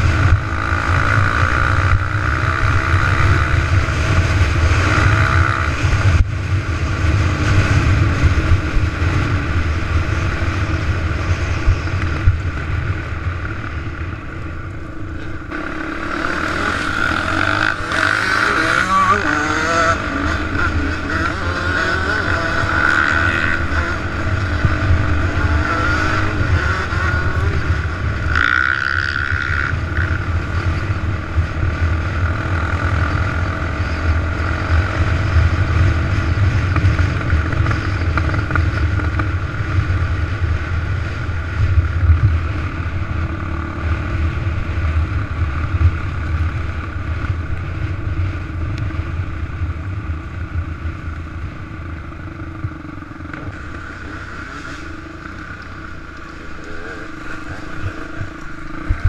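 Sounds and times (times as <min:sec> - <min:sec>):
off-road vehicle engine running: 0:00.0 - 0:59.0
wind rumble on microphone: 0:00.0 - 0:59.0.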